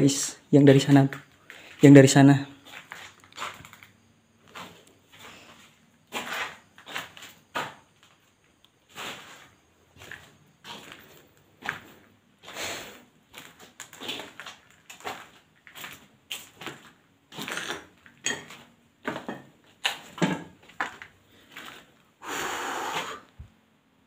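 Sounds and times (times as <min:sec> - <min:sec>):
footsteps on gritty floor: 0:01.0 - 0:22.0.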